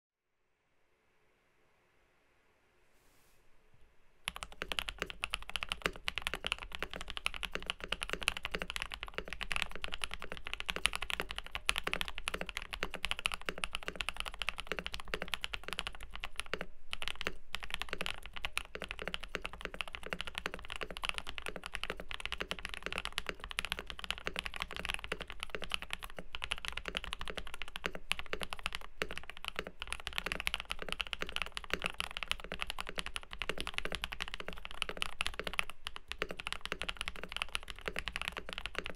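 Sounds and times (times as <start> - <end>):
typing on mechanical keyboard: 4.3 - 38.9.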